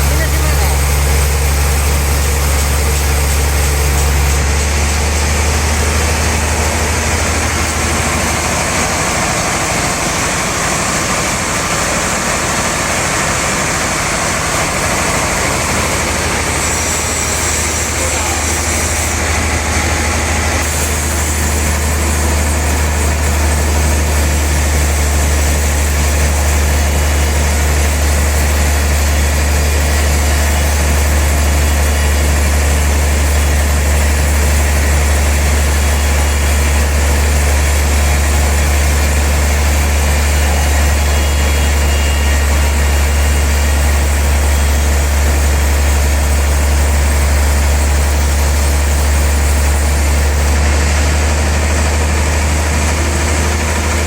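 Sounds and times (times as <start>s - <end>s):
sawmill machinery humming and whirring: 0.0s - 54.0s.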